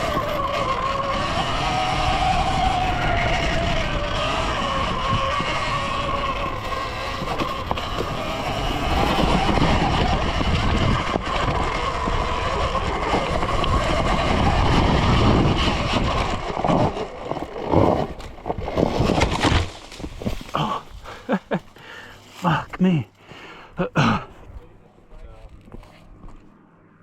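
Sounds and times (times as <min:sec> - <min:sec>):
electric motor whine: 0:00.0 - 0:21.7
rumble of wind and tyres: 0:00.0 - 0:27.0.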